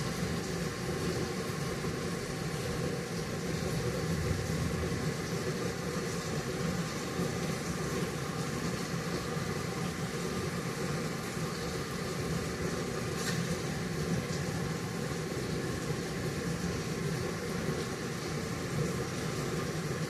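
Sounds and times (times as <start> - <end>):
rain pattering on foliage: 0.0 - 20.0.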